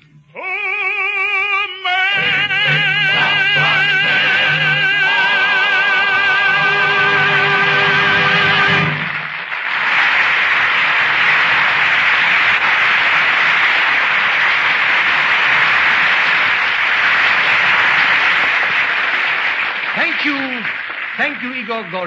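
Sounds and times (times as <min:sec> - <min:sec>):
audience applauding: 0:02.0 - 0:22.0.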